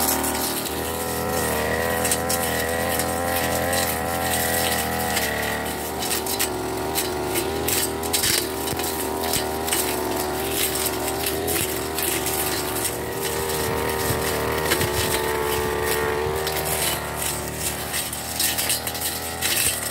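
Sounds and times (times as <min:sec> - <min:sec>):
brush cutter engine cutting grass: 0:00.0 - 0:19.9.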